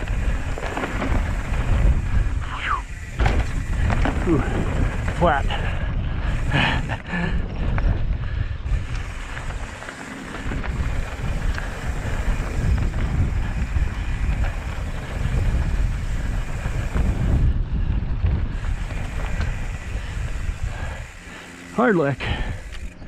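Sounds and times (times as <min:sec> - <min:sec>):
bike clicks and rattles: 0:00.0 - 0:23.0
bike tyres rumbling over dirt: 0:00.0 - 0:23.0
wind buffeting microphone: 0:00.0 - 0:23.0.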